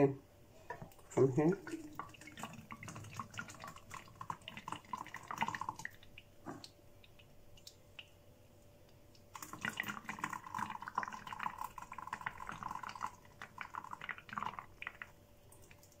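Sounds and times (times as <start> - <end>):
juice trickling through colander: 0.7 - 8.3, 9.0 - 16.0.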